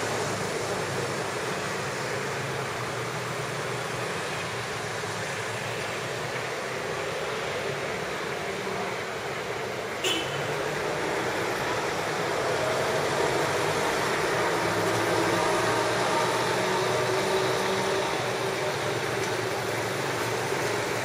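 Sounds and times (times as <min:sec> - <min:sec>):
street noise: 0:00.0 - 0:21.0.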